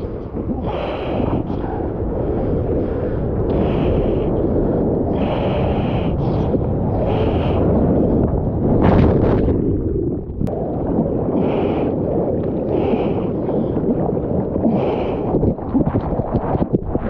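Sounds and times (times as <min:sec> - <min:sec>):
churning rush of water: 0:00.0 - 0:17.0.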